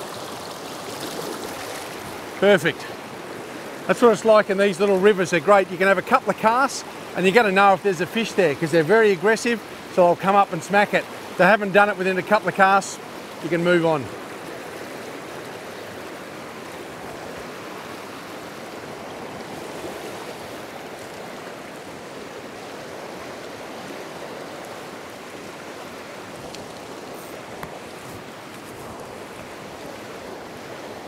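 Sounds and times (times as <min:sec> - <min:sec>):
stream flowing over stones: 0:00.0 - 0:31.0.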